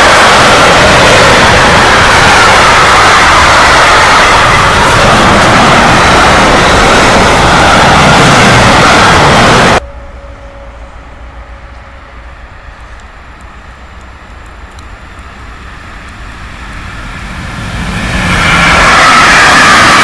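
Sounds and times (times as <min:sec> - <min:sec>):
electric freight train approaching: 0:00.0 - 0:20.0.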